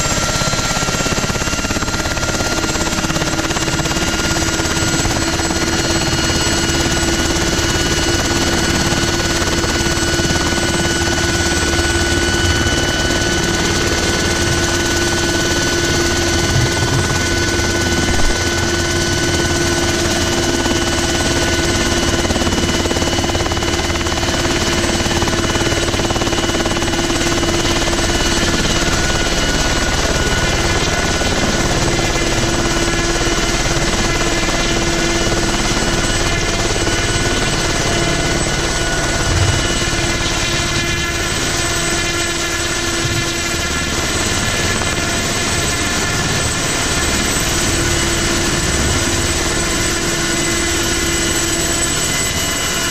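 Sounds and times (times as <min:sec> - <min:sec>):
helicopter engine and rotor drone: 0:00.0 - 0:52.9.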